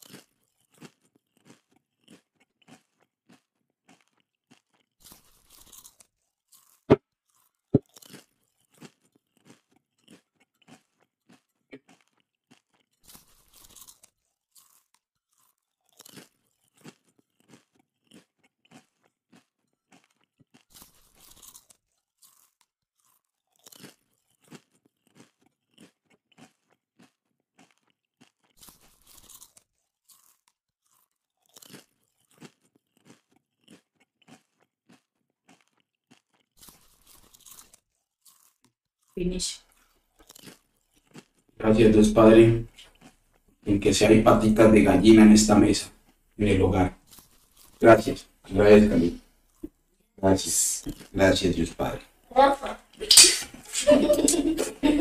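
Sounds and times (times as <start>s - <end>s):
chewing crunches: 0.0s - 52.2s.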